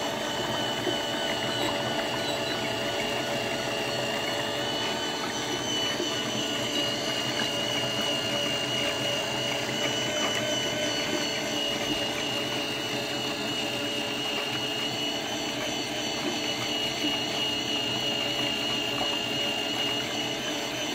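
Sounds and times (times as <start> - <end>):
mechanical hum: 0.0 - 20.9.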